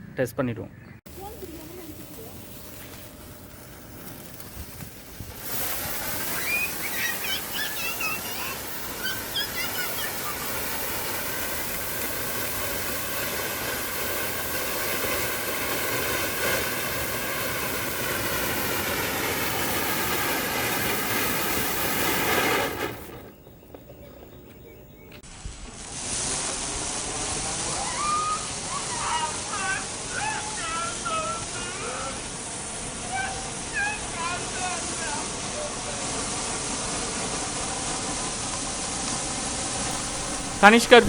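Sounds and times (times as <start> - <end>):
crackling fountain firework hissing: 1.1 - 41.0.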